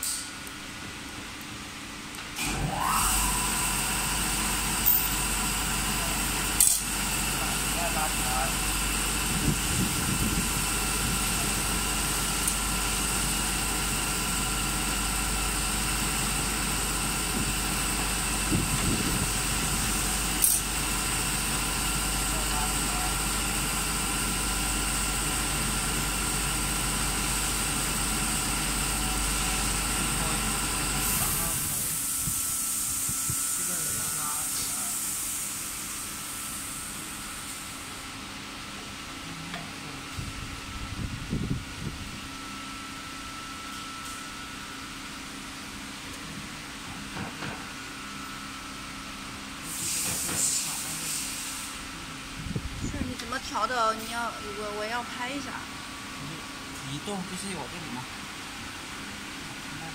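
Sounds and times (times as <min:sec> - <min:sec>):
workshop machinery hum and hiss: 0:00.0 - 0:59.9.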